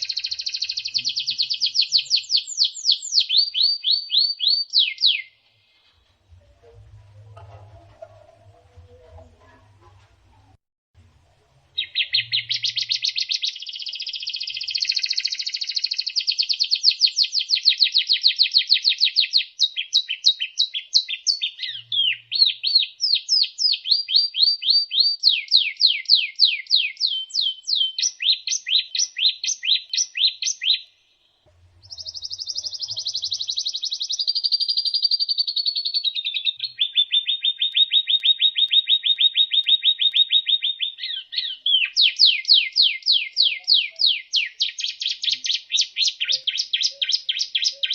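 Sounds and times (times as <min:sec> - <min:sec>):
songbird trilling: 0:00.0 - 0:05.4, 0:11.8 - 0:31.0, 0:31.8 - 0:47.9.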